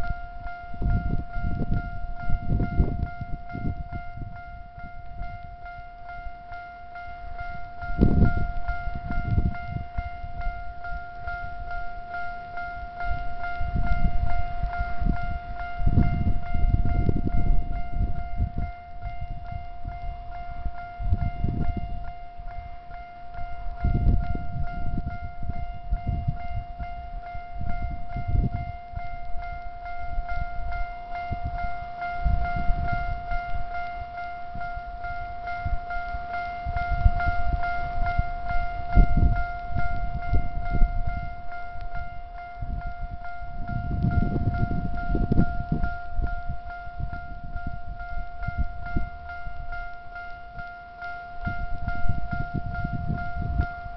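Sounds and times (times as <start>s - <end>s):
level crossing bell ringing: 0.0s - 53.9s.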